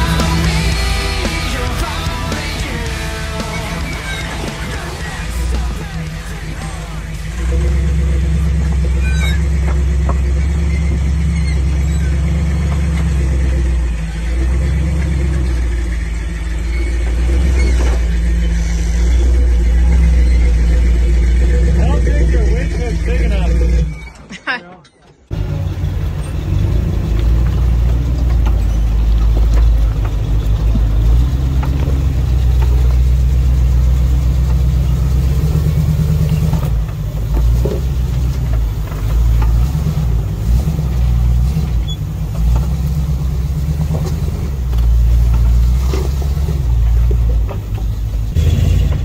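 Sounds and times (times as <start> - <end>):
off-road engine crawling: 0.0 - 49.0.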